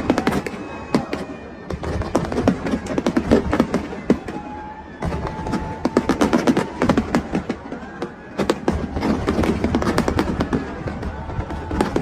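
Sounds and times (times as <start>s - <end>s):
fireworks cracks and pops: 0.0s - 12.0s.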